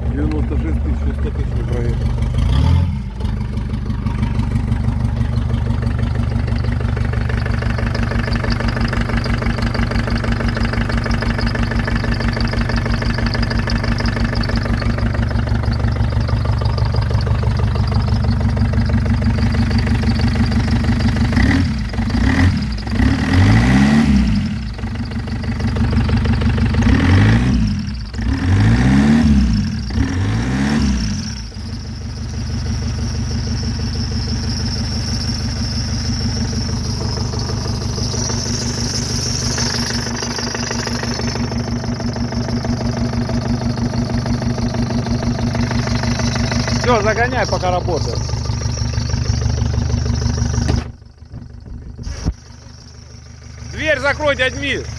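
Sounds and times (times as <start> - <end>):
diesel engine idling: 0.0 - 54.9
engine revving: 0.0 - 54.9.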